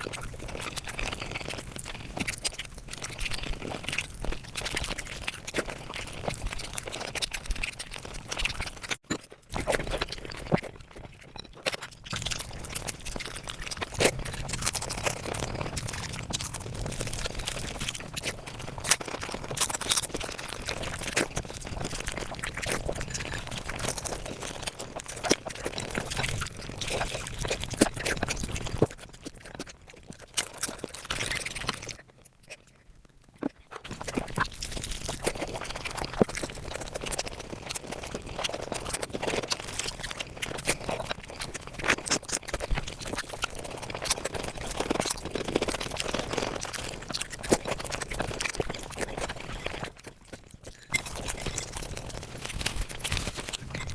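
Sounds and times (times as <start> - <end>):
sped-up chewing and smacking: 0.0 - 53.9.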